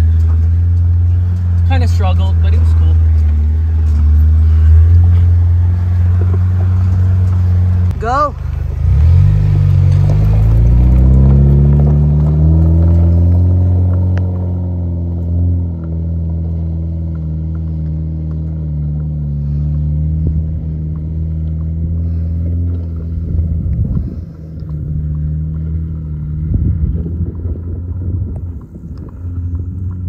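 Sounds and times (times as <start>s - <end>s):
engine droning uphill: 0.0s - 30.0s.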